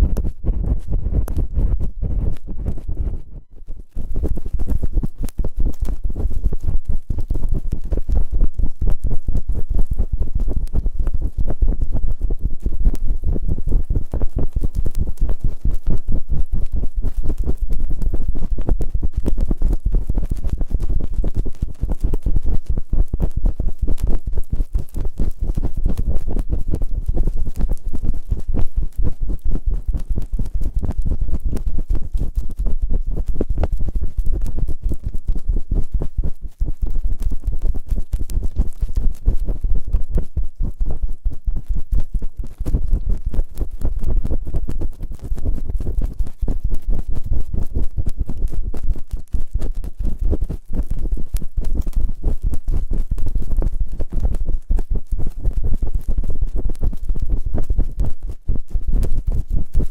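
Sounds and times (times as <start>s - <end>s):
scraping and rubbing on microphone: 0.0s - 59.9s.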